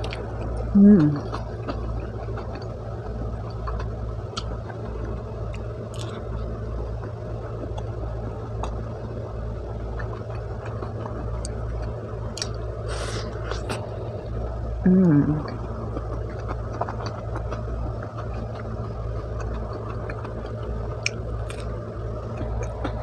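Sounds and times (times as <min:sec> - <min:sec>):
chewing with mouth closed: 0:00.0 - 0:08.9, 0:09.8 - 0:14.4, 0:15.4 - 0:23.0
low background hum: 0:00.0 - 0:23.0.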